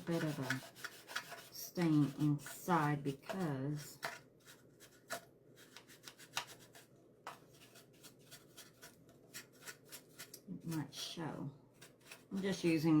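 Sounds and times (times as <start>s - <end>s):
paint brush scratching on wood: 0.0s - 13.0s.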